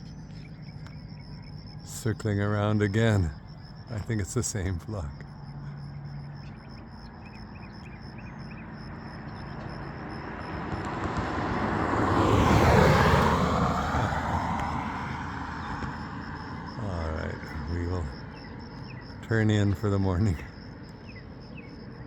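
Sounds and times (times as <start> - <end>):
road vehicle passing by: 0.0 - 19.2.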